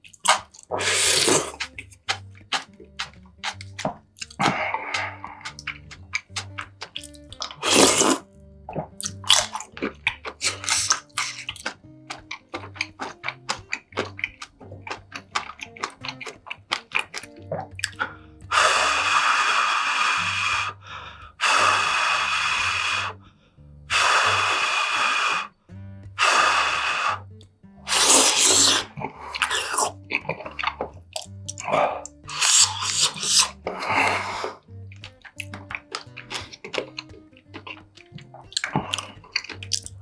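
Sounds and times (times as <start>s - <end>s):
close-miked eating sounds: 0.0s - 40.0s
soft background music: 0.1s - 40.0s.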